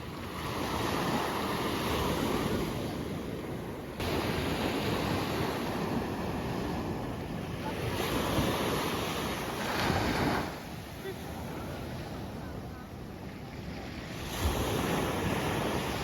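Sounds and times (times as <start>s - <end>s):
ocean surf washing: 0.0s - 16.0s.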